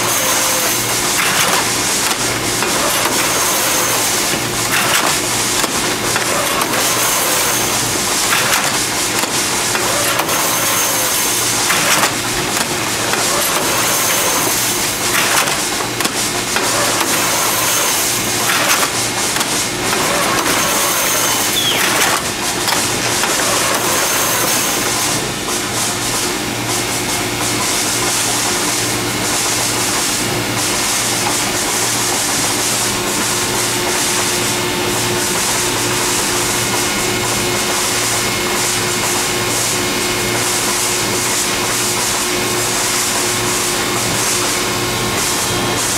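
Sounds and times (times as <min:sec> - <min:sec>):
hydraulic power unit humming: 0:00.0 - 0:45.9.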